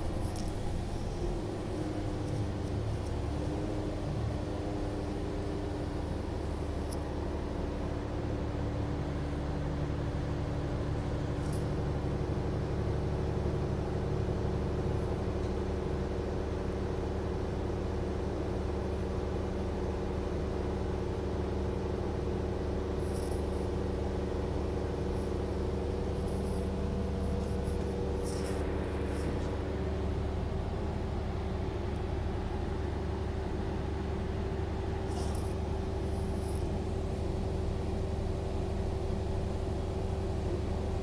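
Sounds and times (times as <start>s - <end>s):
rail car hum and rumble: 0.0s - 41.0s.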